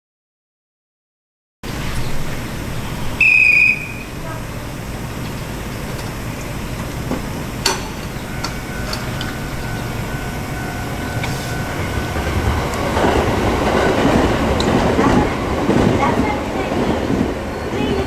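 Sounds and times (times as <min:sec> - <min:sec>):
railway station rumble: 0:01.6 - 0:18.0
train approaching: 0:01.6 - 0:18.0.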